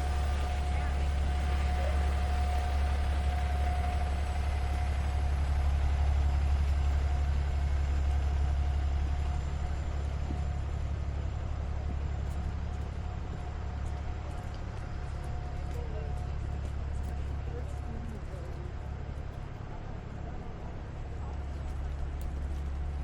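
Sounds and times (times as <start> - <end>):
thin steady whine: 0.0 - 19.5
city street noise: 0.0 - 23.0
large vehicle engine idling: 0.0 - 23.0.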